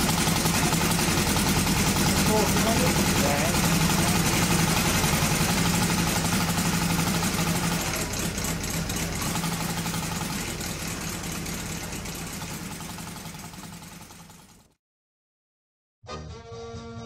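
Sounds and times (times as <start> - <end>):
model aircraft engine running: 0.0 - 14.7.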